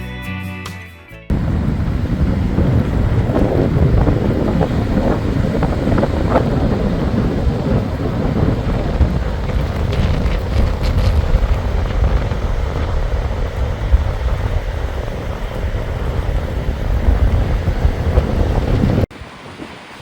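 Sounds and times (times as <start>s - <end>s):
wind buffeting microphone: 1.3s - 20.0s.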